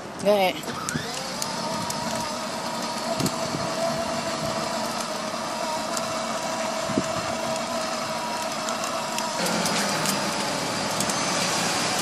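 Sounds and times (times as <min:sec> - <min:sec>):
plastic wheels rumbling on concrete: 0:00.0 - 0:12.0
toy electric motor whining: 0:00.6 - 0:12.0.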